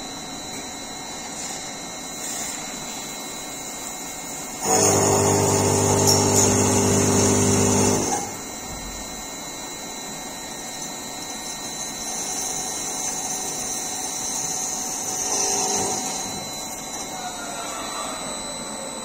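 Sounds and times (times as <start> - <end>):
drill cutting with pitched whine: 0.0 - 19.0
lathe running: 1.2 - 9.5, 10.1 - 19.0.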